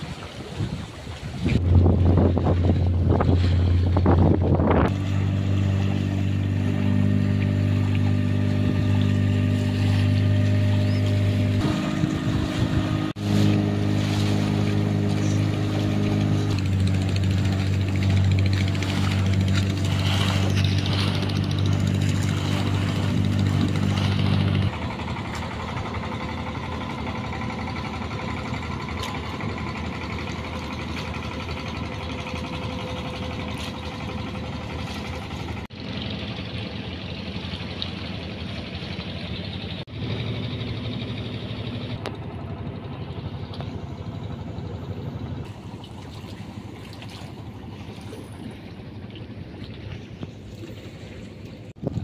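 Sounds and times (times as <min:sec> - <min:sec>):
small boat engine running: 0:00.0 - 0:52.0.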